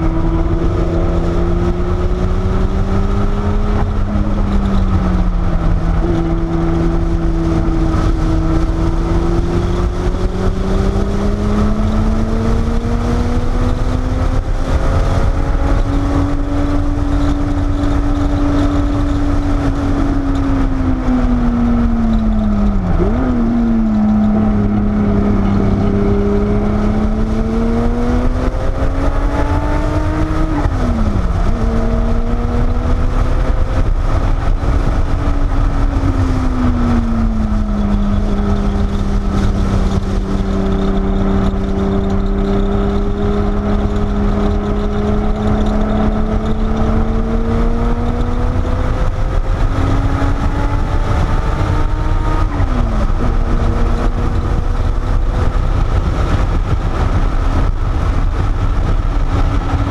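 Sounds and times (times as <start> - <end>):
car engine at racing speed: 0.0 - 59.9
road and wind noise: 0.0 - 59.9.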